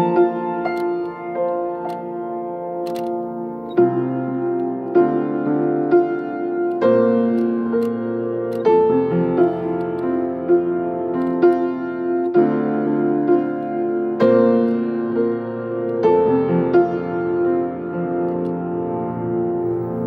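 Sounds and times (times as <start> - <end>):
grand piano chords: 0.0 - 20.0.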